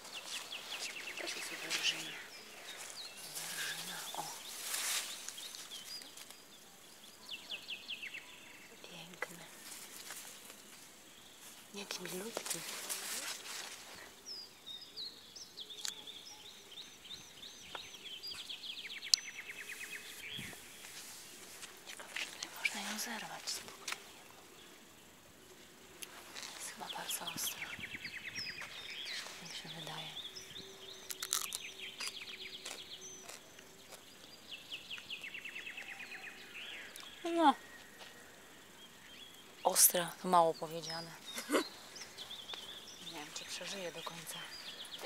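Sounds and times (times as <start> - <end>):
small songbirds chirping: 0.0 - 45.0.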